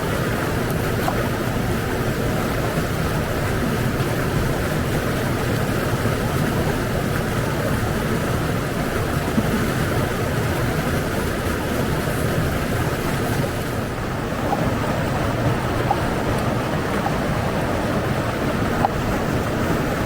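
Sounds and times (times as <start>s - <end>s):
running water rushing: 0.0s - 20.0s.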